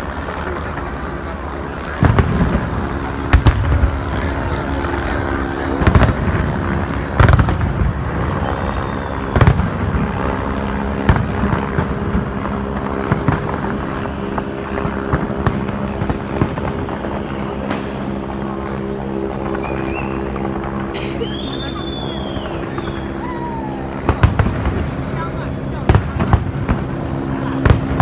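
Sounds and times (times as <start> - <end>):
small fireworks pops: 0.0 - 4.6, 5.3 - 28.0
fireworks rumble and crackle: 0.0 - 28.0
fireworks bangs: 0.2 - 28.0.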